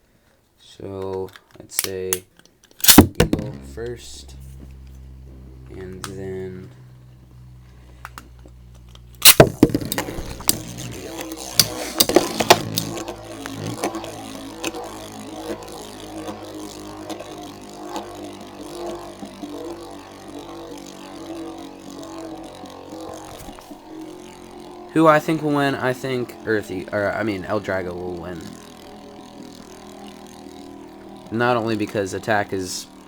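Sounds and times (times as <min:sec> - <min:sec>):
spinning tops clicking and clacking: 0:02.8 - 0:04.4, 0:08.1 - 0:33.0
spinning metal tops whirring: 0:02.8 - 0:33.0.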